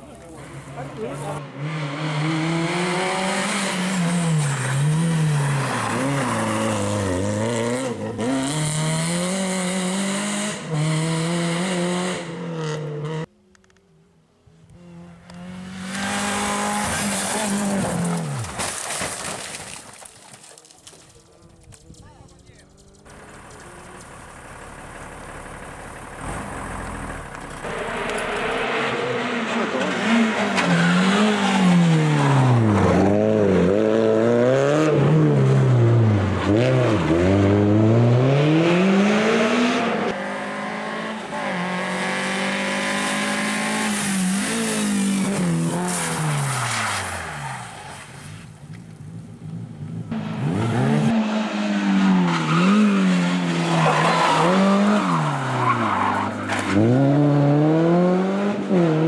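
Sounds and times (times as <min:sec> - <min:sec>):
rally car engines revving: 0:00.0 - 0:13.3, 0:14.6 - 0:18.6, 0:22.6 - 0:59.0.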